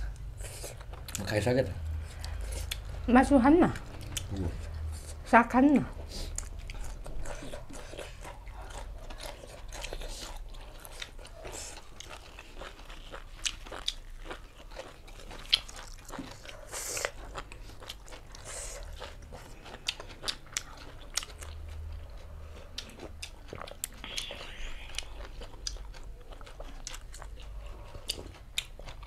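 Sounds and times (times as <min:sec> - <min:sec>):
chewing and biting food: 0:00.0 - 0:03.1, 0:03.7 - 0:05.3, 0:05.9 - 0:29.0.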